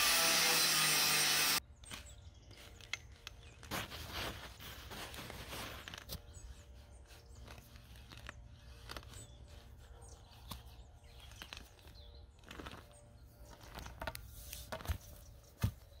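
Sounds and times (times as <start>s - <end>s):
dry soil crackling and crunching: 1.6s - 16.0s.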